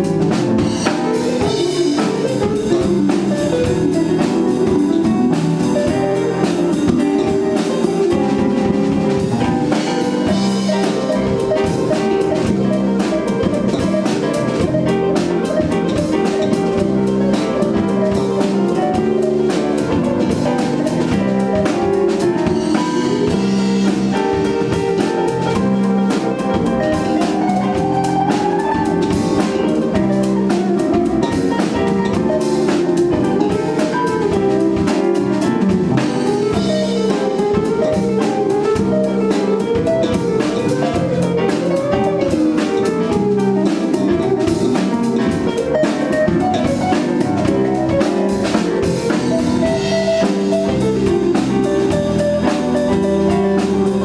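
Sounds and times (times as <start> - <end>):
drum kit: 0.0 - 54.0
electric bass: 0.0 - 54.0
electric guitar: 0.0 - 54.0
keyboard: 0.0 - 54.0.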